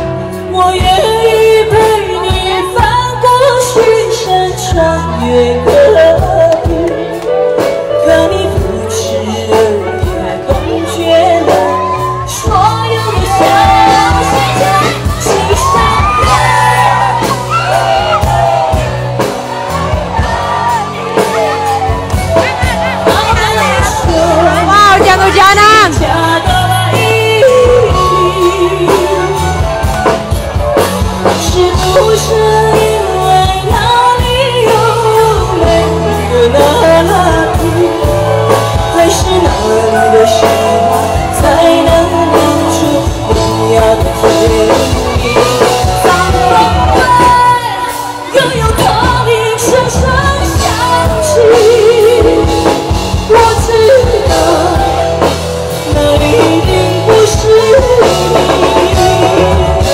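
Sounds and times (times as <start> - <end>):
woman singing with vibrato: 0.0 - 29.9, 31.2 - 59.9
live pop band: 0.0 - 59.9.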